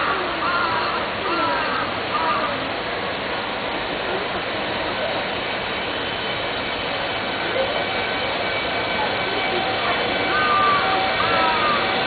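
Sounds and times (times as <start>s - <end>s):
electric locomotive high whine: 0.0s - 12.0s
track and traffic rush: 0.0s - 12.0s.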